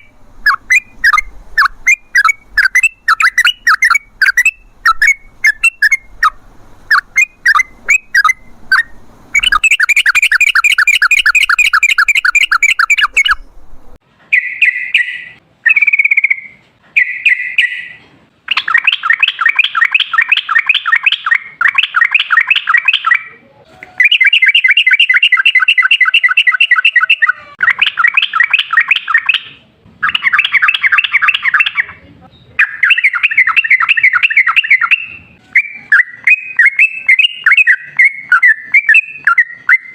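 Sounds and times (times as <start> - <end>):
bulbul chirping and trilling: 0.0 - 13.6, 14.3 - 23.3, 24.0 - 32.0, 32.6 - 39.9.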